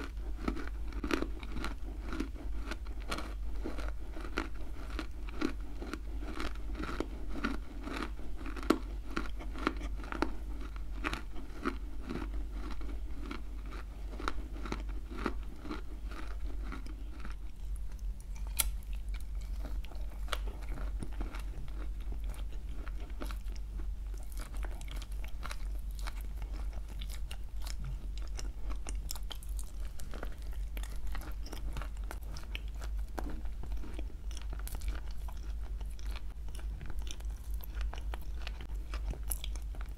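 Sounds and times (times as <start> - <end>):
crunchy chewing: 0.0 - 39.9
soft chewing: 0.0 - 39.9.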